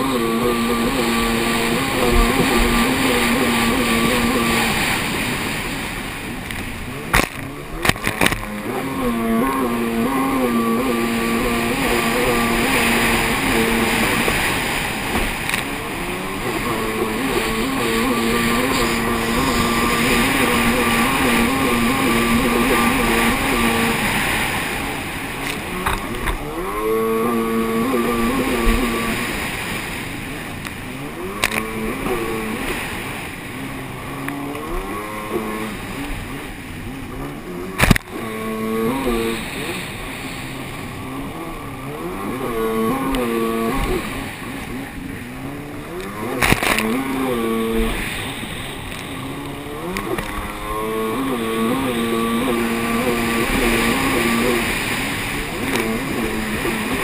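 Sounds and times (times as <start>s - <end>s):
jet ski engine revving: 0.0s - 57.0s
rush of spray and wind: 0.0s - 57.0s.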